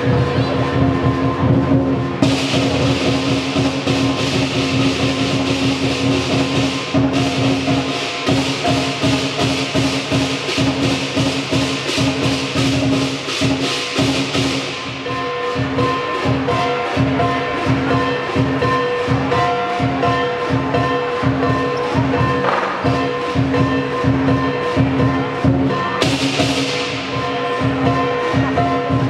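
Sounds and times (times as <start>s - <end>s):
clashing cymbals: 0.0s - 29.0s
drum beat: 0.0s - 29.0s.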